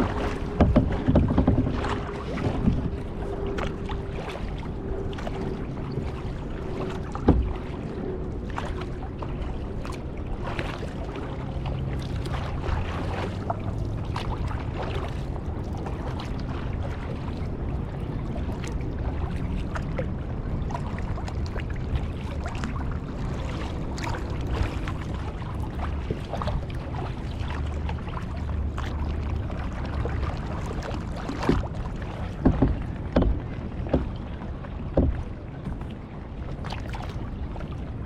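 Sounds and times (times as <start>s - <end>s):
paddle splashing water: 0.0s - 38.0s
steady low rumble: 0.0s - 38.0s.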